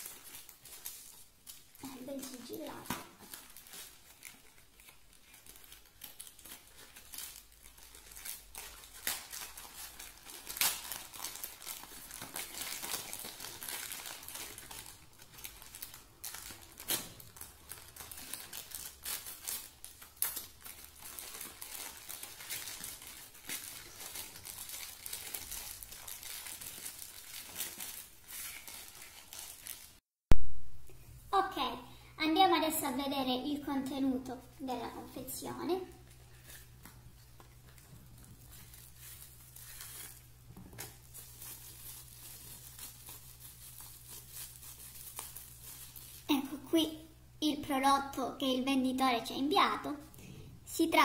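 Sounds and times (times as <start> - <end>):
plastic bag crinkling: 0.0 - 30.0, 32.6 - 46.8.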